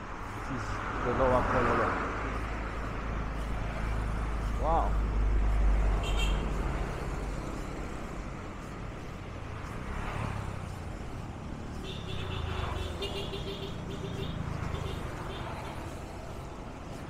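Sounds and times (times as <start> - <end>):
motorcycles: 0.0 - 17.0
steady traffic noise: 0.0 - 17.0.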